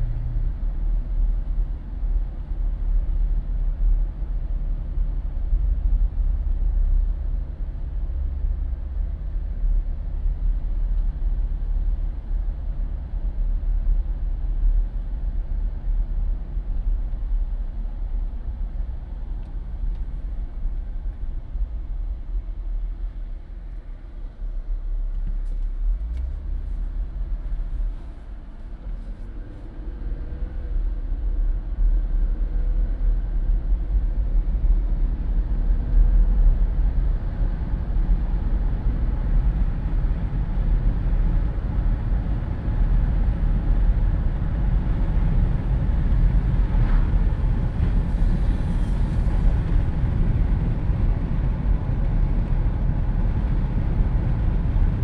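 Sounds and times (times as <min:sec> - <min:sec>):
road and engine rumble: 0:00.0 - 0:55.0
wind rushing through car windows: 0:00.0 - 0:55.0.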